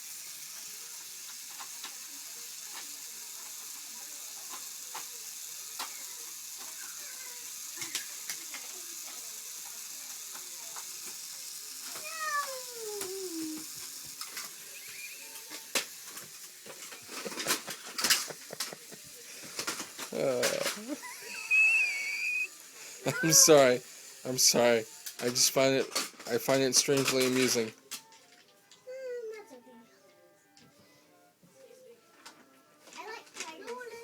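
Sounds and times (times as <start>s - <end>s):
steady hiss: 0.0s - 27.8s.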